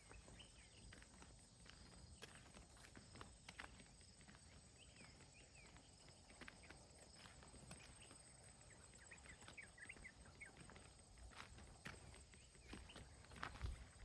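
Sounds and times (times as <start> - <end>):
faint footsteps: 0.0 - 14.0.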